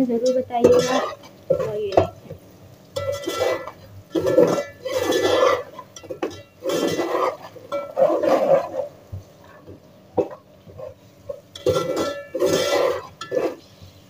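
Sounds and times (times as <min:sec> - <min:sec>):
metal spoon scraping metal pot: 0:00.2 - 0:02.2, 0:03.0 - 0:08.9, 0:10.2 - 0:13.7.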